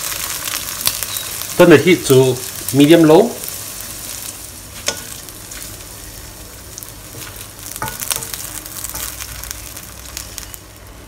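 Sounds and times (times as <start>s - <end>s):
egg sizzling in hot oil: 0.0s - 11.0s.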